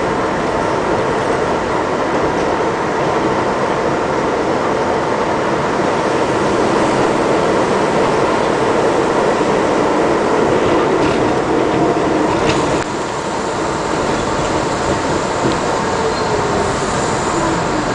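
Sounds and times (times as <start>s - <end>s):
train passing close by: 0.0s - 17.9s
train wheels rumbling on rails: 0.0s - 17.9s.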